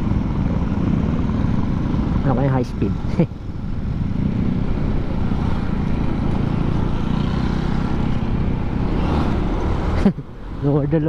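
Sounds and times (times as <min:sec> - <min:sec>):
scooter engine running: 0:00.0 - 0:10.5
wind and road noise: 0:00.0 - 0:11.0.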